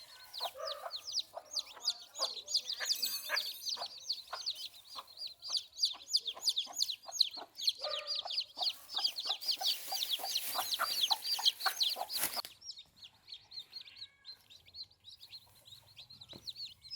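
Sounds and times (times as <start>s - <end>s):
chickens clucking: 0.0s - 13.8s
chicks peeping: 0.0s - 16.9s.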